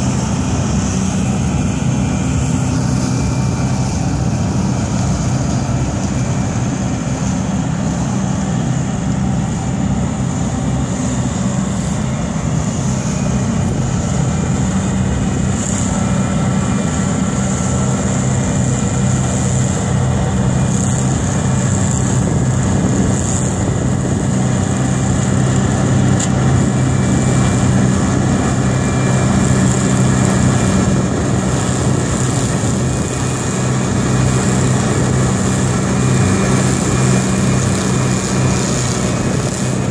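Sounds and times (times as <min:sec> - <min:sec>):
mower high whine: 0:00.0 - 0:39.9
tractor engine drone: 0:00.0 - 0:39.9.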